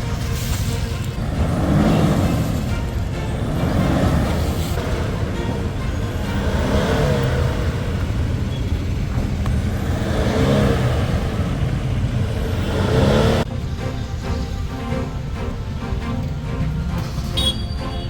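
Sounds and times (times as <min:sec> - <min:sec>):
car engine revving: 0:00.0 - 0:18.0
music: 0:00.0 - 0:18.0.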